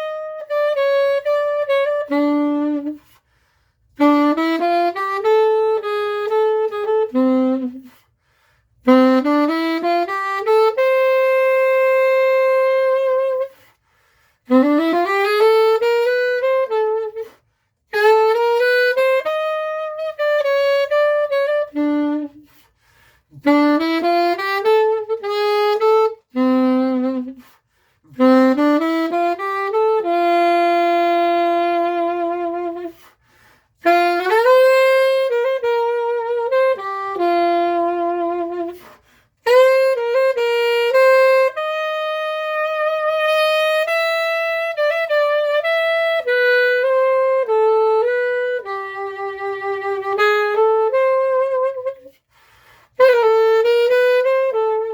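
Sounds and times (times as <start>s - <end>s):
solo saxophone melody: 0.0s - 54.9s.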